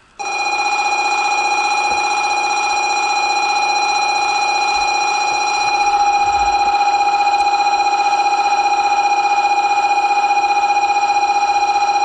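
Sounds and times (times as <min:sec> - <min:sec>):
electric warning bell ringing: 0:00.0 - 0:12.0.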